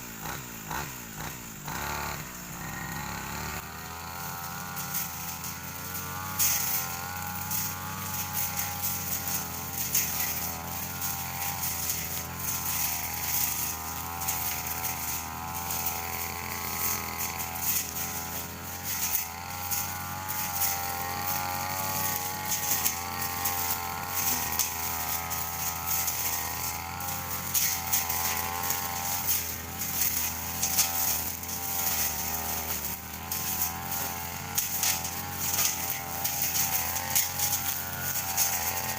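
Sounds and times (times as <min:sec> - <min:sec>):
brush cutter engine running: 0:00.0 - 0:38.9
cutting head swishing grass: 0:00.2 - 0:38.9.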